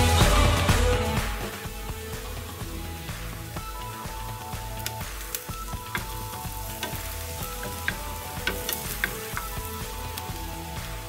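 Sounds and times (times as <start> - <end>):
onions sizzling in hot oil: 0.2 - 11.0.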